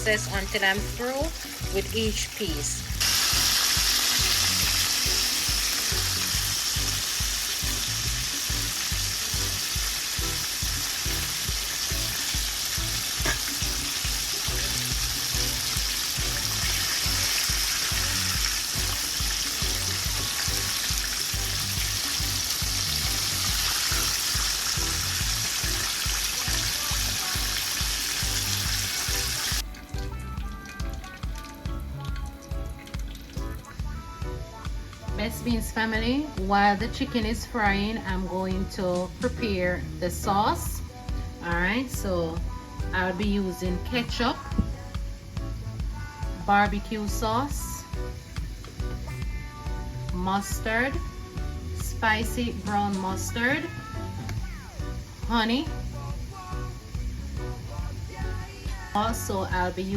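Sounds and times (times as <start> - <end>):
chicken deep-frying in oil: 0.0 - 44.5, 45.2 - 59.9
background music with beat: 0.0 - 59.9.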